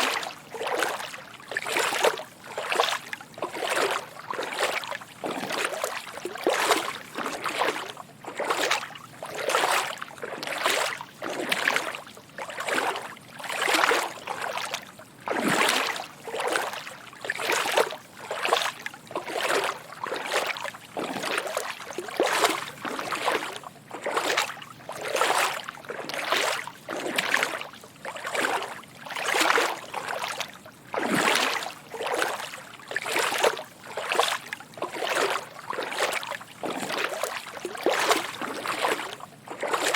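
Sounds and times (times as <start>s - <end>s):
footsteps wading through water: 0.0s - 39.9s.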